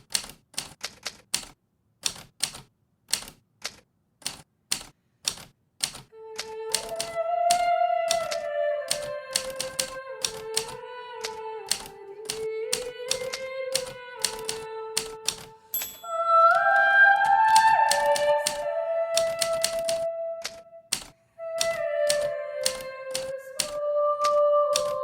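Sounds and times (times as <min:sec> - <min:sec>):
typewriter keys striking: 0:00.0 - 0:08.3, 0:08.9 - 0:16.0, 0:17.5 - 0:18.6, 0:19.2 - 0:25.0.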